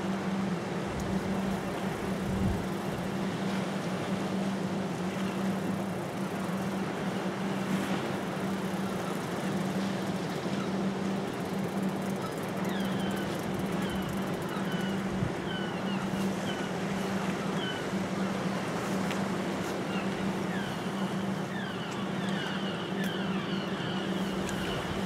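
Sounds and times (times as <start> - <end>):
sea noise: 0.0 - 25.0
wind: 0.0 - 25.0.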